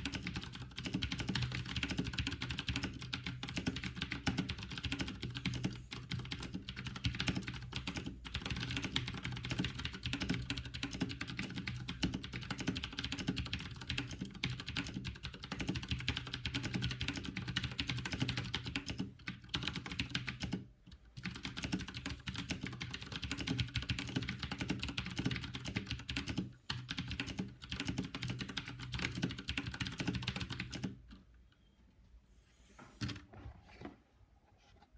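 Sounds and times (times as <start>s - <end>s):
mechanical keyboard typing: 0.0s - 31.2s.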